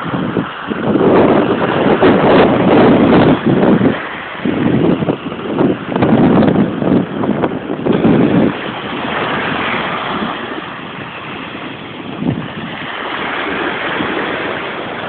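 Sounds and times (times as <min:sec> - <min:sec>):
waves washing onto shingle: 0:00.0 - 0:15.0
wind on microphone: 0:00.0 - 0:15.0.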